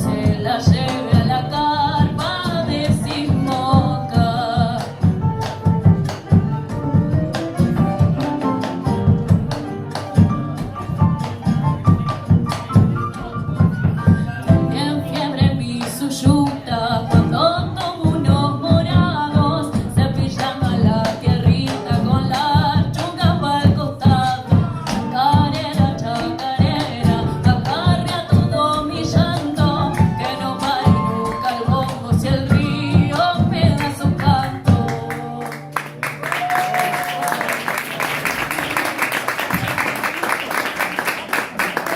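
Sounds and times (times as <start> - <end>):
percussive beat: 0.0 - 35.4
plucked guitar: 0.0 - 36.5.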